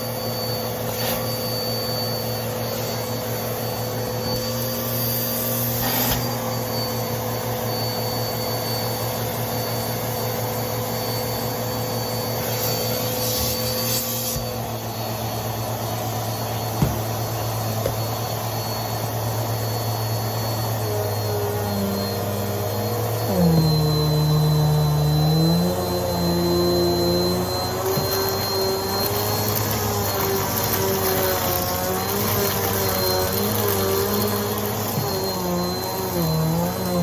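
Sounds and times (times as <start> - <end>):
vacuum cleaner sucking debris: 0.0 - 8.6, 11.1 - 37.0.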